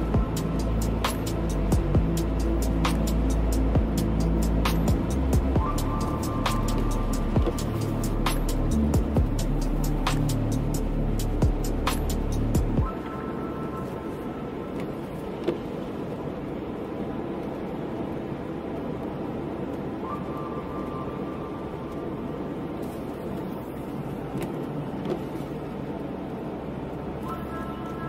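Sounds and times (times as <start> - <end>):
tyres on wet road: 0.0 - 28.0.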